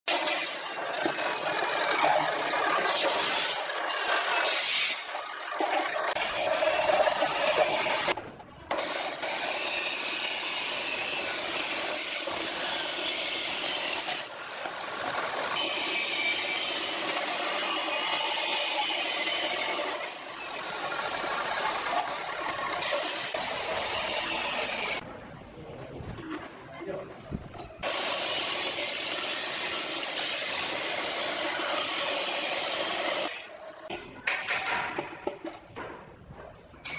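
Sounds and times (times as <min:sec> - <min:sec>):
saw wheel grinding through metal: 0:00.1 - 0:33.9.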